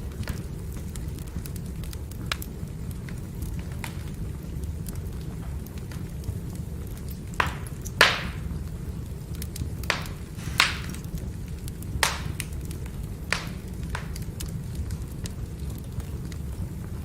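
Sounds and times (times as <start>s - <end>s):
firewood crackling pops: 0.0s - 17.0s
low rumble of flame: 0.0s - 17.0s.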